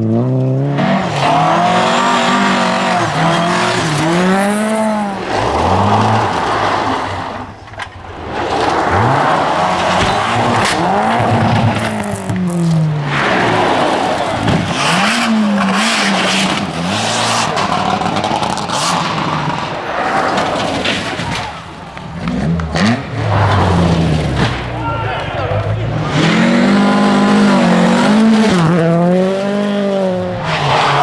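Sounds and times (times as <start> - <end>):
rally car engines revving: 0.0 - 31.0
tyre and road noise: 0.0 - 31.0.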